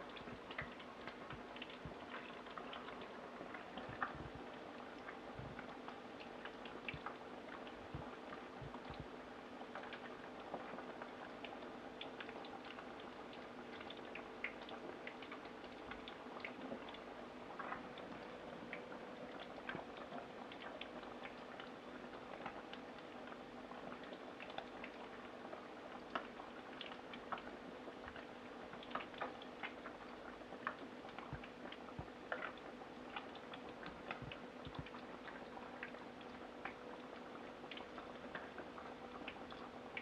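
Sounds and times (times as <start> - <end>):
deep-frying in hot oil: 0.0 - 40.0.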